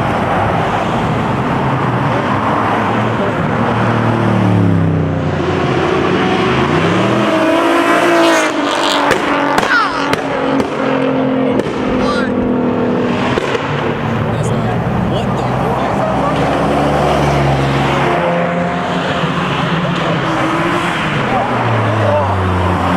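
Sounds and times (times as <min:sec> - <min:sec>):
race car engine revving: 0:00.0 - 0:22.9.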